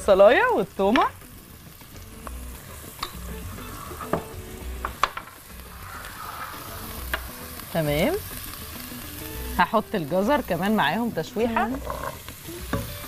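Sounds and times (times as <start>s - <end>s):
onion and garlic sizzling in oil: 0.0s - 13.0s.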